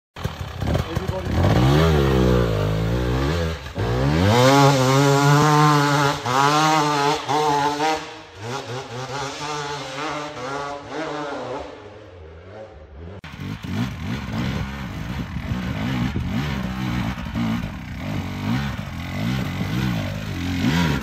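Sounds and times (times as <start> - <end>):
dirt bike engine revving: 0.2 - 21.0.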